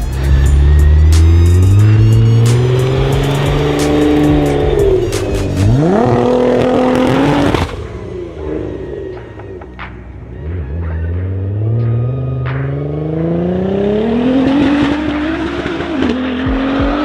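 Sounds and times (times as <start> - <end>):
car engine revving: 0.0 - 17.0
exhaust cracks: 0.0 - 17.0.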